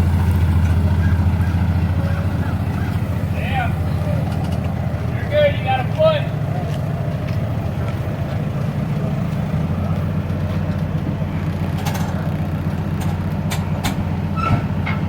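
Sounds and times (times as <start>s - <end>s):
forklift engine droning: 0.0s - 15.0s.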